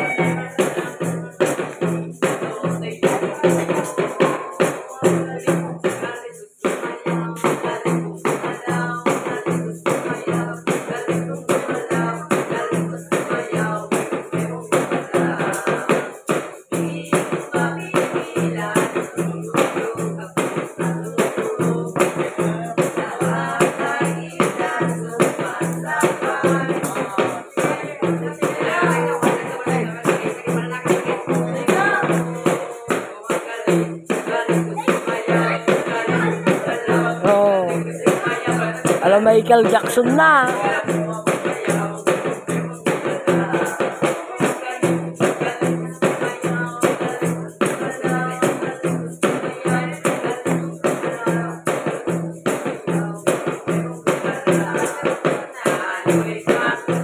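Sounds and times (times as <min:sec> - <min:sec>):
people singing: 0:00.0 - 0:57.0
tambourine and shakers rattling: 0:00.0 - 0:57.0.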